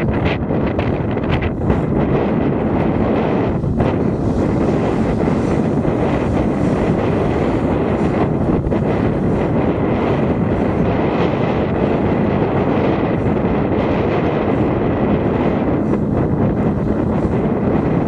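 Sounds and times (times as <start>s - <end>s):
wind rumbling over microphone: 0.0s - 18.0s.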